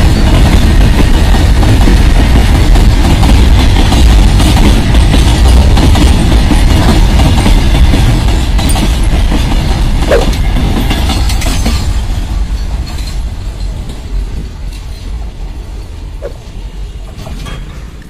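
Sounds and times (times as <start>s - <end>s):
train wheels clattering on rail joints: 0.0s - 18.0s.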